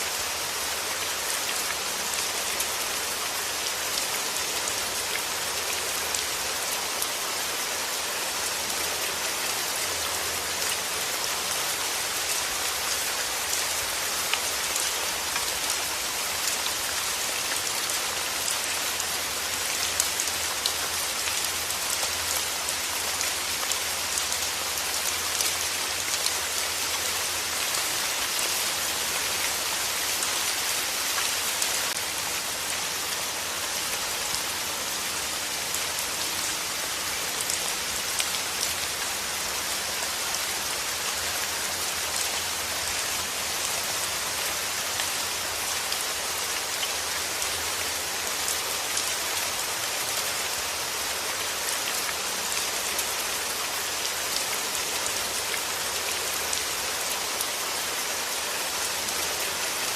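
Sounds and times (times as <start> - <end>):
rain on a hard surface: 0.0 - 59.9.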